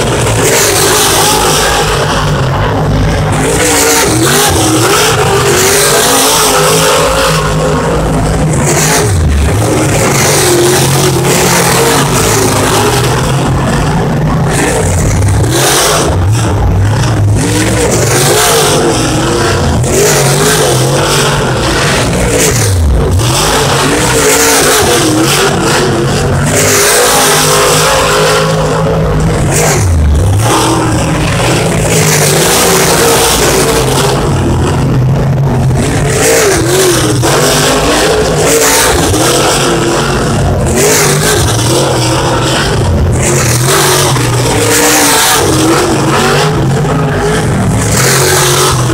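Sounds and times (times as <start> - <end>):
race car engines racing: 0.0 - 48.9.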